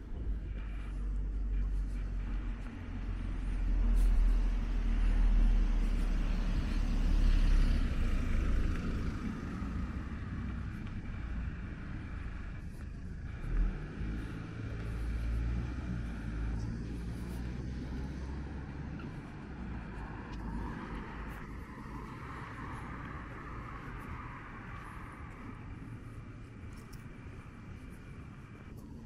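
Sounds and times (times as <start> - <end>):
car engine rumbling past: 0.3 - 25.8.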